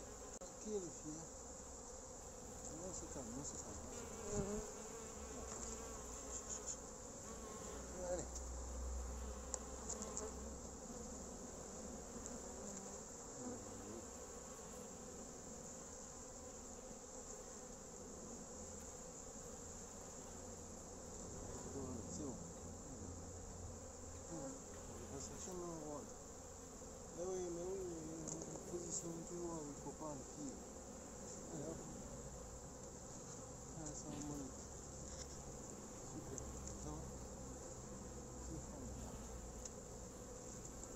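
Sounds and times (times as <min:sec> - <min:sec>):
honeybees buzzing: 0:00.0 - 0:40.9.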